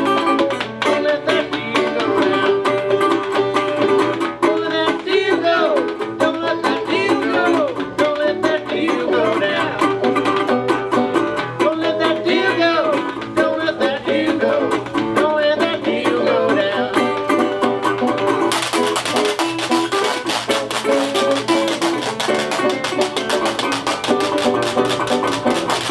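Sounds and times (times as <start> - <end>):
banjo: 0.0 - 25.9
resonator guitar: 0.0 - 25.9
washboard rhythm: 0.0 - 25.9.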